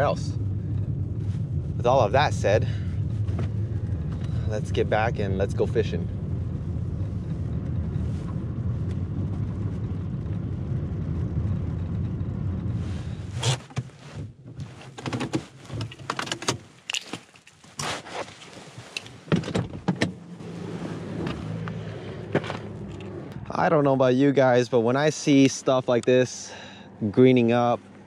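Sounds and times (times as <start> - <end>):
car engine and road drone: 0.0 - 28.0.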